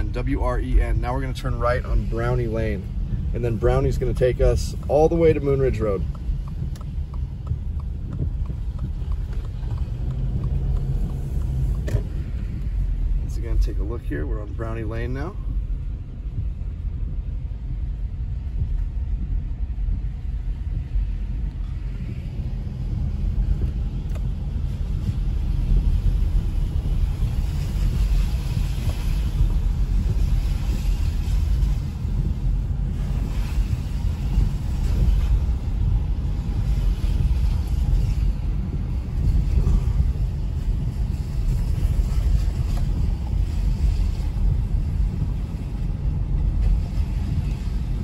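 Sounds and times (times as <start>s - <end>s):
car engine and tyres rumble: 0.0s - 48.0s
tyres hissing on wet road: 0.0s - 48.0s.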